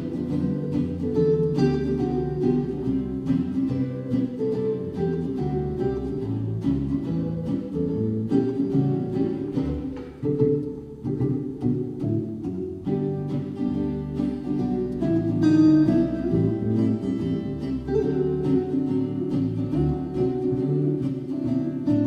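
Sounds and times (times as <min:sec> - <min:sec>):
plucked acoustic guitars: 0:00.0 - 0:22.0.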